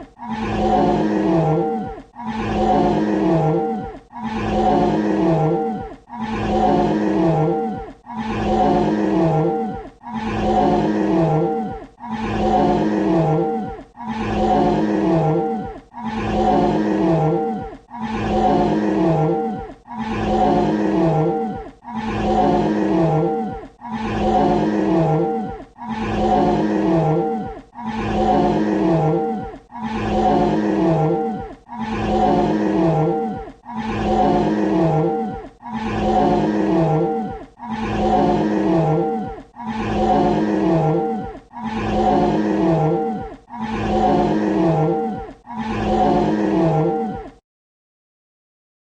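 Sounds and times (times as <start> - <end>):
dinosaur roar: 0.0 - 47.4.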